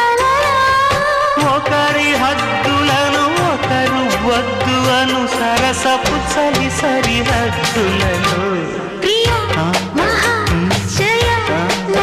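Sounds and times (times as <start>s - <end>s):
bass line: 0.0s - 12.0s
person singing: 0.0s - 12.0s
drum beat: 1.4s - 8.5s, 9.1s - 12.0s.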